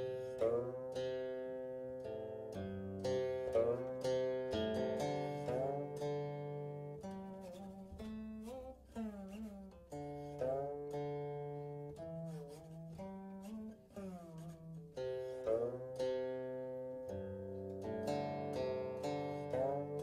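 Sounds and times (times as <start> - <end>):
plucked string instrument notes: 0.0 - 20.0.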